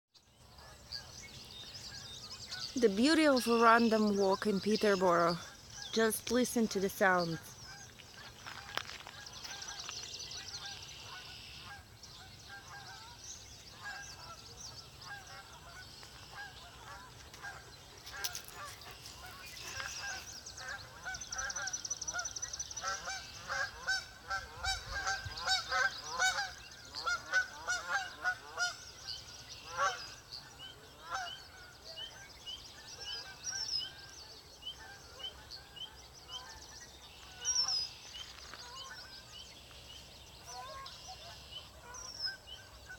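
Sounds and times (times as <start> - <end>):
small birds chirping and trilling: 0.2 - 42.9
geese honking: 1.8 - 34.2, 40.4 - 42.9.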